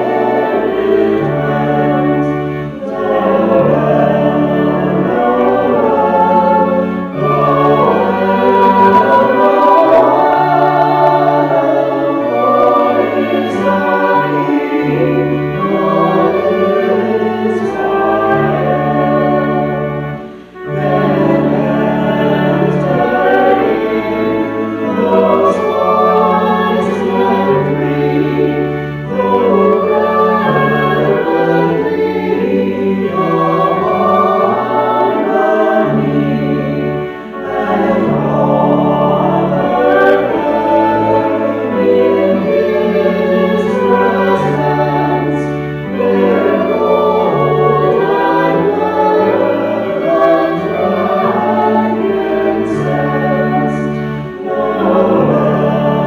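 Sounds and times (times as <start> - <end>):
choir singing: 0.0 - 56.0
instrumental accompaniment: 0.0 - 56.0.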